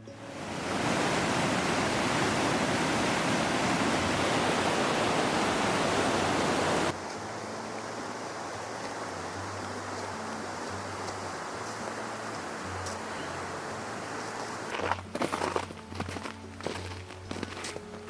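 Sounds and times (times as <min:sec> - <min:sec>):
rushing waterfall: 0:00.0 - 0:15.8.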